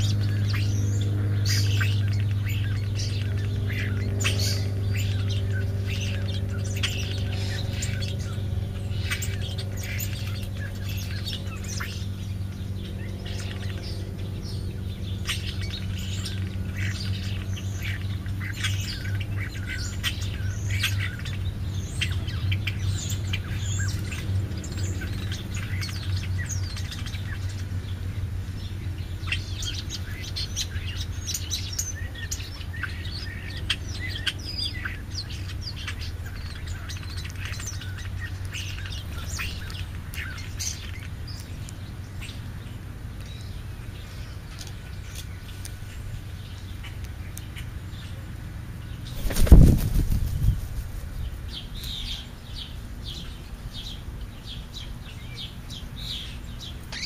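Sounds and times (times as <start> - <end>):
small birds chirping: 0.0 - 57.0
steady low hum: 0.0 - 57.0.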